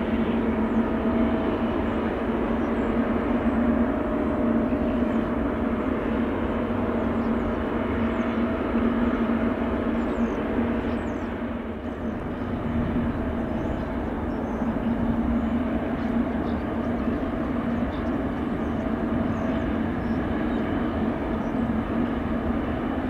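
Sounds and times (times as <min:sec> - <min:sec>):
jet airliner engine rumble: 0:00.0 - 0:23.0.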